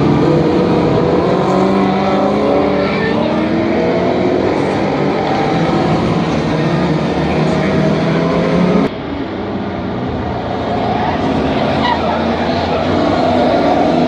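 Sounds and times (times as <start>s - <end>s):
racing car engines revving high: 0.0s - 14.0s.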